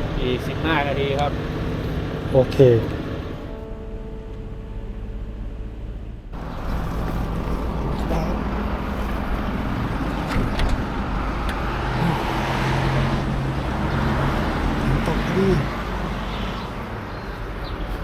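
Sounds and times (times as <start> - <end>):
engine hum: 0.0 - 18.0
tyre and traffic noise: 0.0 - 18.0.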